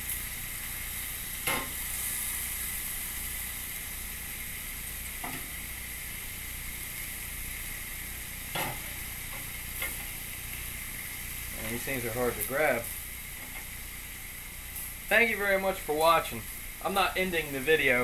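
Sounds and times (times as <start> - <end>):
meat and vegetables sizzling: 0.0 - 18.0.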